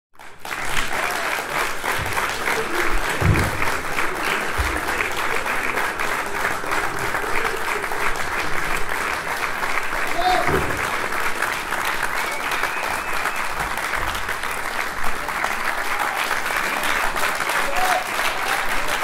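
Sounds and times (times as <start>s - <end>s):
audience applauding: 0.2s - 19.0s
faint voices in crowd: 0.9s - 19.0s.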